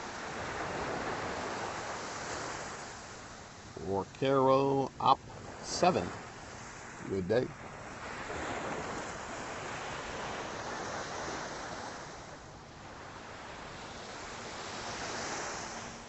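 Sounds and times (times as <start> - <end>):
ocean surf washing ashore: 0.0 - 16.0.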